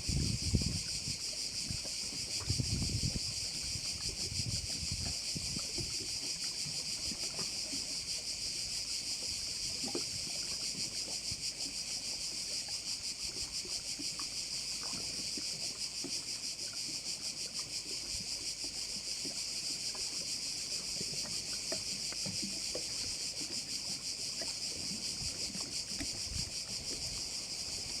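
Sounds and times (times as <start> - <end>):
cicadas droning: 0.0 - 28.0
water lapping: 0.6 - 28.0.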